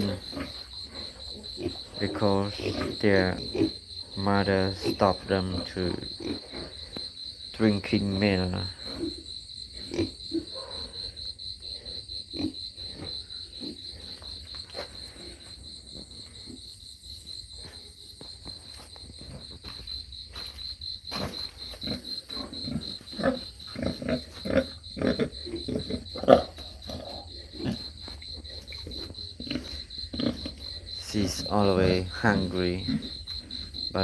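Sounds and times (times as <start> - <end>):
pigs grunting: 0.0 - 16.7, 21.1 - 34.0
insect trill: 0.0 - 34.0.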